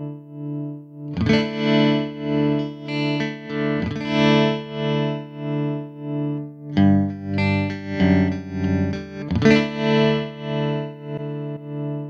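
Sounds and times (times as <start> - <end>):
electric guitar chords with tremolo: 0.0 - 12.0.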